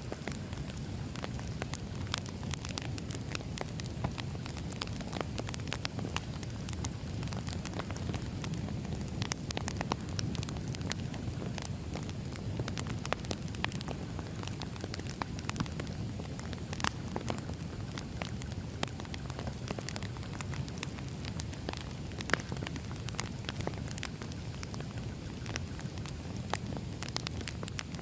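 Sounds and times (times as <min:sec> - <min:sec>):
fire rumbling: 0:00.0 - 0:28.0
logs crackling and popping: 0:00.0 - 0:28.0.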